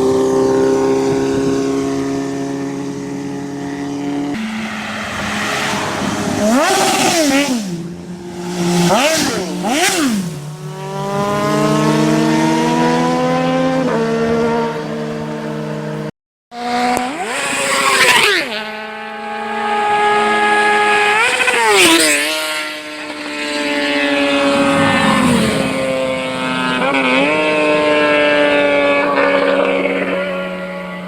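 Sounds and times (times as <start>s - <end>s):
motorcycle engine revving: 0.0s - 16.0s, 16.6s - 31.0s.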